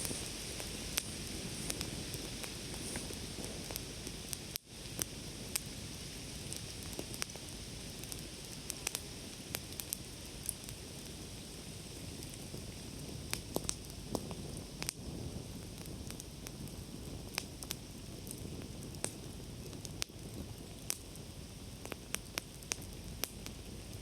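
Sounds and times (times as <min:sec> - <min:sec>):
campfire flames hissing: 0:00.0 - 0:24.0
fire crackles and pops: 0:00.0 - 0:24.0.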